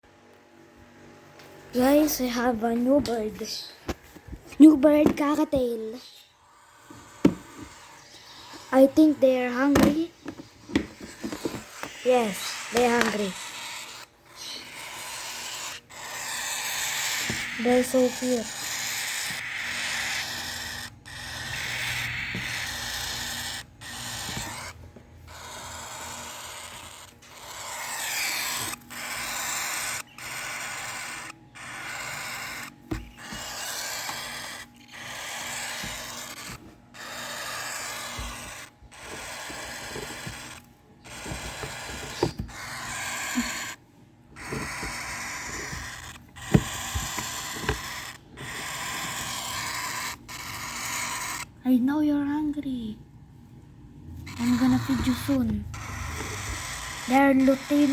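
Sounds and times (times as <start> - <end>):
cockatiels harsh hissing calls: 5.8 - 43.8, 44.4 - 51.6, 54.2 - 57.9.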